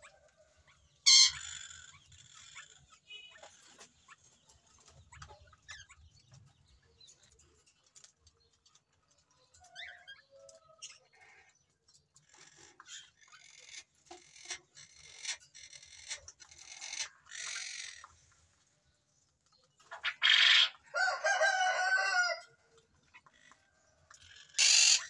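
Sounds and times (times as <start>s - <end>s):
birds chirping and squawking: 0.0s - 25.0s.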